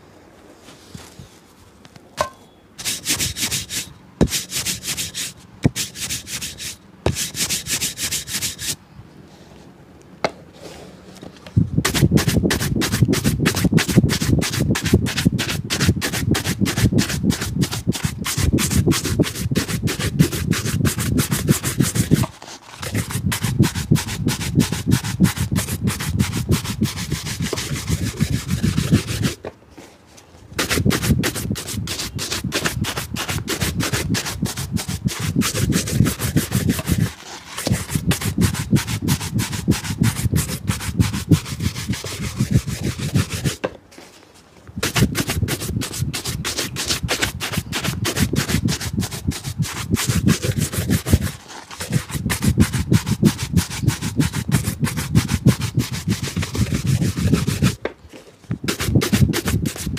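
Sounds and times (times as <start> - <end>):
shoe scrubbing: 2.8 - 8.8, 11.8 - 29.4, 30.6 - 43.6, 44.8 - 57.8, 58.6 - 59.9.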